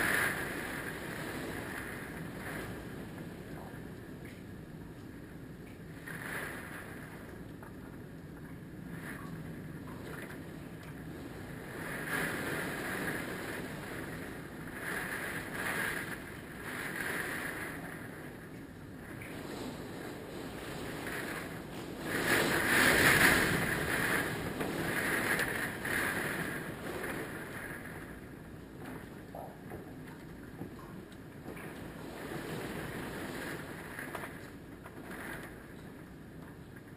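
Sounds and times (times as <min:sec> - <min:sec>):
strong wind gusting: 0:00.0 - 0:08.2, 0:08.8 - 0:36.4
wind buffeting microphone: 0:00.0 - 0:36.9.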